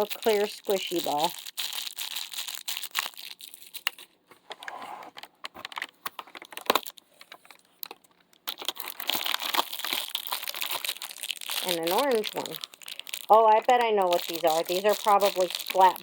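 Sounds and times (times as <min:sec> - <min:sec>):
plastic packaging crinkling: 0:00.0 - 0:04.2, 0:05.1 - 0:16.0.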